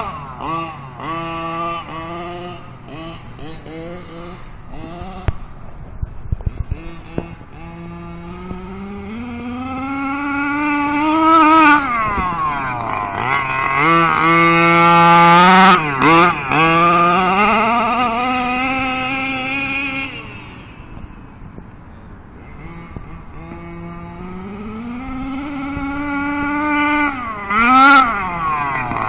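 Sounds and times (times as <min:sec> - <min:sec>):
rc car engine revving: 0:00.0 - 0:29.0.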